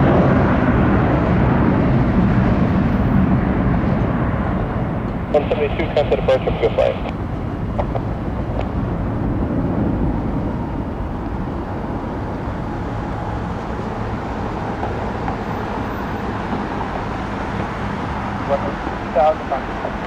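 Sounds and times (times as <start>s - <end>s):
airport ambience: 0.0s - 20.0s
distant jet engines rumbling: 0.0s - 20.0s.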